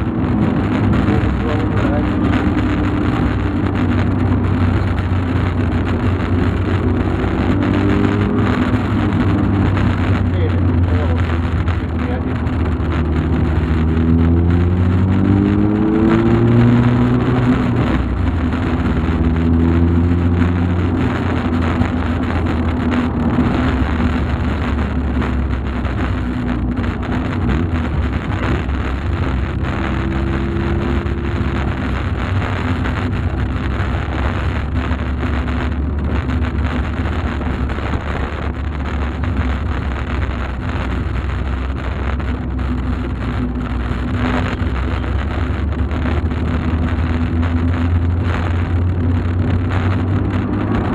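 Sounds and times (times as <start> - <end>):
car engine accelerating: 0.0 - 50.9
road and tyre noise: 0.0 - 50.9.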